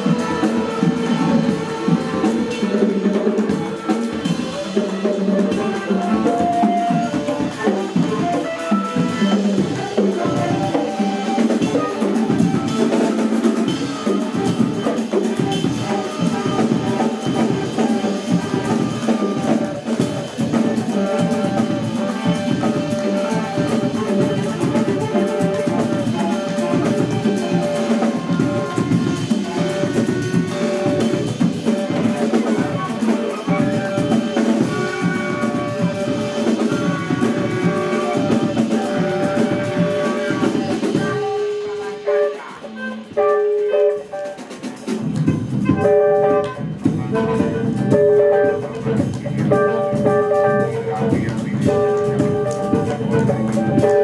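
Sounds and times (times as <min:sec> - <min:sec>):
drum kit played busily: 0:00.0 - 0:54.0
saxophone held notes: 0:00.0 - 0:54.0.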